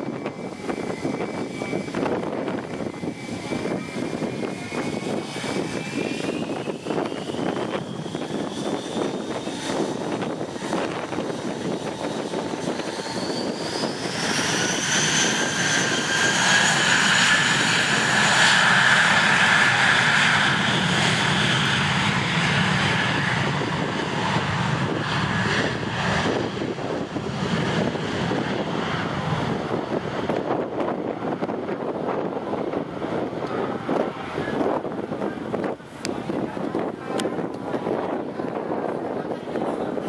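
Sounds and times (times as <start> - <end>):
jet engines at takeoff: 0.0 - 40.0.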